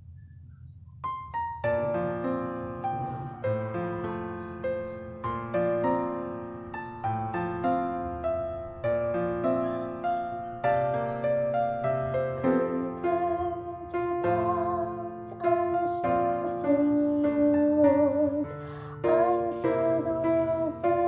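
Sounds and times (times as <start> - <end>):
slow piano keyboard music: 0.8 - 21.0.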